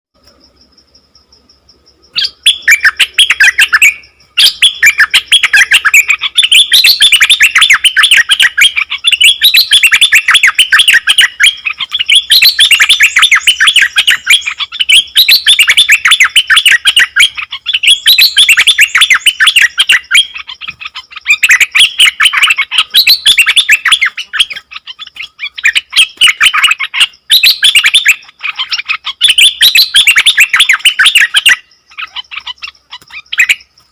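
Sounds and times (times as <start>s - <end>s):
songbird singing chattering notes: 0.2s - 33.9s.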